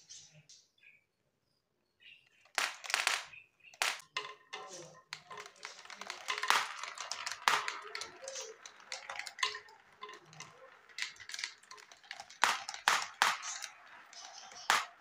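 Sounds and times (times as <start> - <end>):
marble rolling through track: 2.5 - 15.0.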